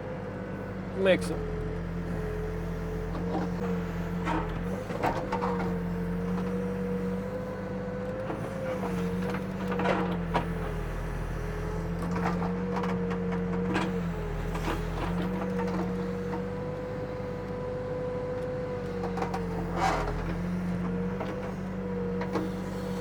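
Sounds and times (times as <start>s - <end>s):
backhoe engine running under load: 0.0s - 23.0s.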